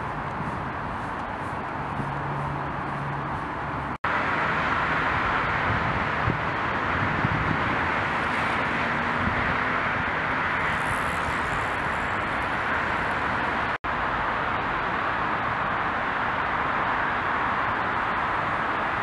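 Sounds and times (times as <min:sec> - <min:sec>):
distant road traffic: 0:00.0 - 0:19.0.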